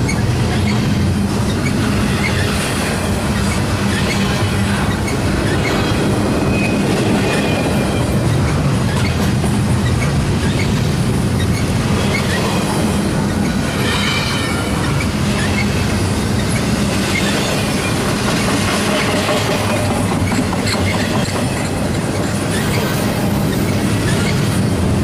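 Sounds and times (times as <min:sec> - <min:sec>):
clicks of train wheels: 0:00.0 - 0:25.0
train wheels rumbling on rail: 0:00.0 - 0:25.0
high wheel squeal: 0:00.1 - 0:09.2, 0:11.4 - 0:25.0.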